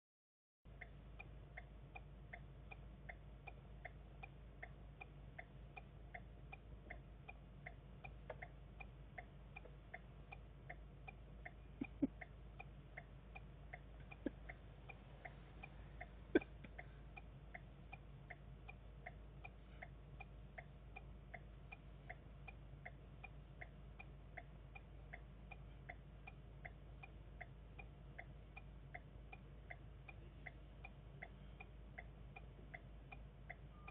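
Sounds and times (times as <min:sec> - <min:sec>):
low steady hum: 0:00.7 - 0:33.9
steady ticking: 0:00.7 - 0:33.9.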